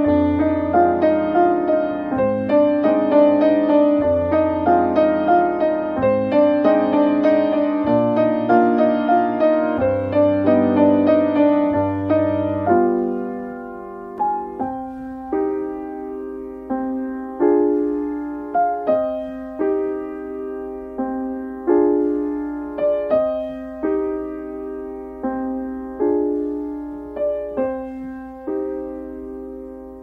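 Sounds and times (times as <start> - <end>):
slow piano music: 0.0 - 30.0.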